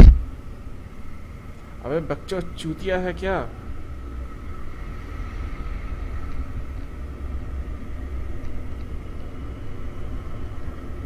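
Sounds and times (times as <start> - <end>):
faint motorcycle engine whine: 0.0 - 11.0.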